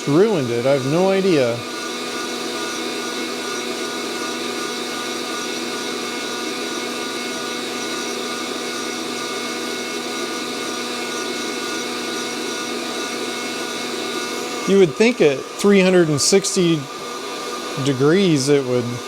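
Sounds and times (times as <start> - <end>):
coffee roaster fan whirring: 0.0 - 19.0.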